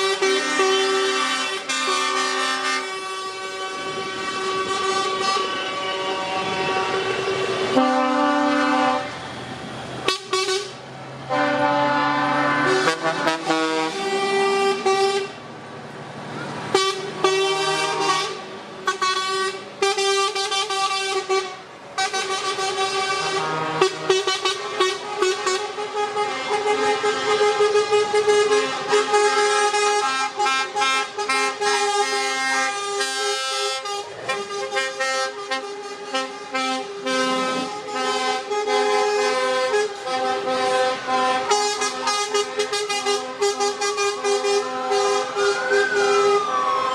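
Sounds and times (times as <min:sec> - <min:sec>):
truck air horns blasting: 0:00.0 - 0:15.5, 0:16.4 - 0:46.9
truck engines running: 0:00.0 - 0:46.9.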